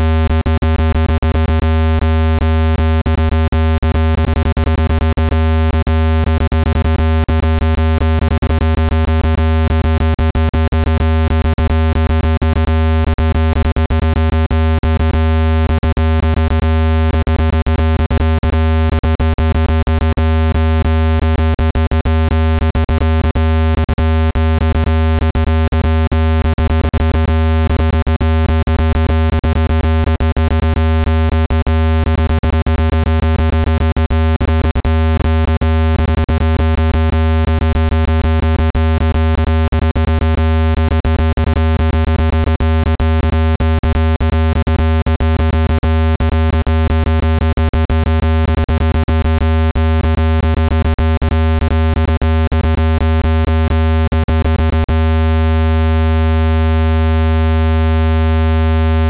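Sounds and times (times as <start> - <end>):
deep pulsing electronic buzz: 0.0 - 59.0.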